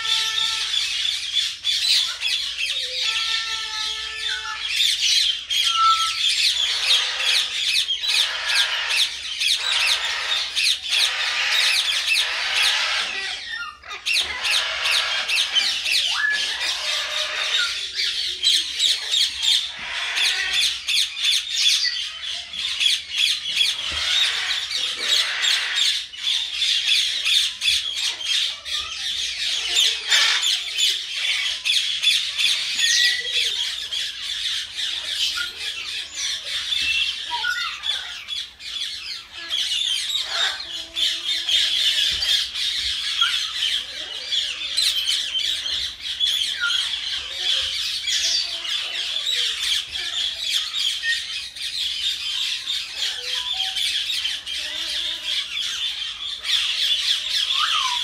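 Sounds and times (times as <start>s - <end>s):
myna squawking and chattering: 4.2s - 21.1s, 22.3s - 58.0s.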